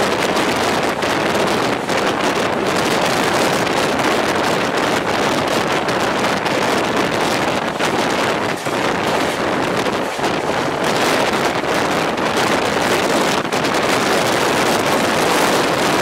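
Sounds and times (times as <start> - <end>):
passenger train rushing: 0.0 - 16.0
wind buffeting microphone: 0.0 - 16.0.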